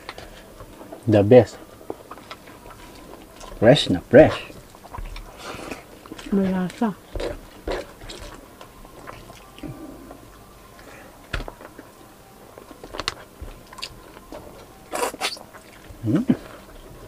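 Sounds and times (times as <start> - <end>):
soft chewing and lip smacks: 1.6 - 3.6, 4.3 - 12.0, 12.6 - 17.0.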